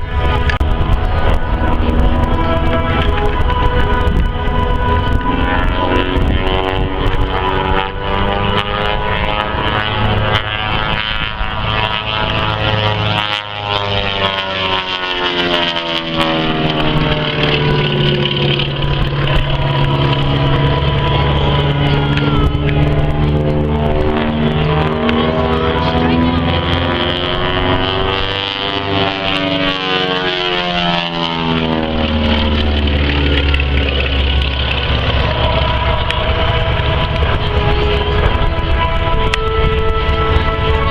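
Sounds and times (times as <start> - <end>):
propeller plane engines droning: 0.0 - 40.9.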